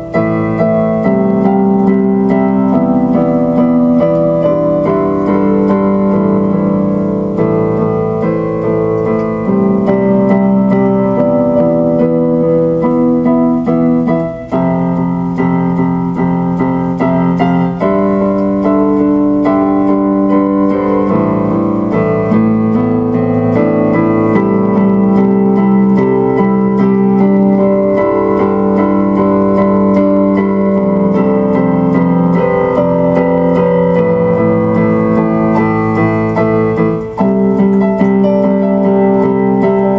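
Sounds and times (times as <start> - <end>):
electronic keyboard piano music: 0.0 - 39.9.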